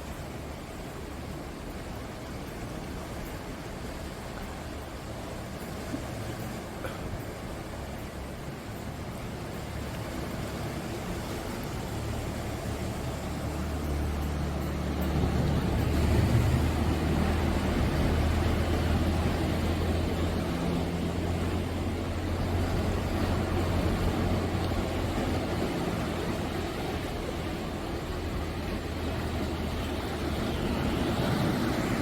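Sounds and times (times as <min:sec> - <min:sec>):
ocean waves breaking: 0:00.0 - 0:32.0.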